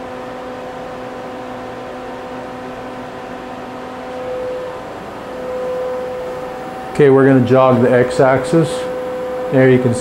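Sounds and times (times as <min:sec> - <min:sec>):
machine hum with held tones: 0:00.0 - 0:10.0.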